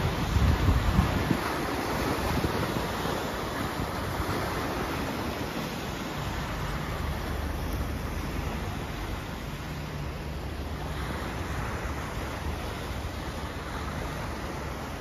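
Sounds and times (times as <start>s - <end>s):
waves lapping on shingle: 0.0s - 15.0s
wind buffeting microphone: 0.0s - 15.0s.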